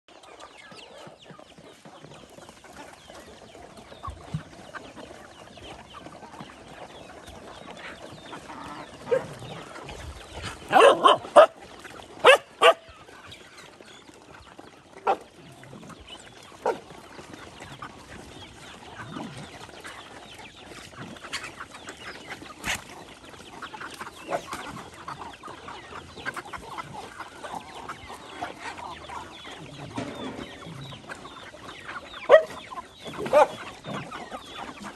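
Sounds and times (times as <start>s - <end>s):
chickens clucking: 0.1s - 34.9s
dogs chewing and shuffling: 0.1s - 34.9s.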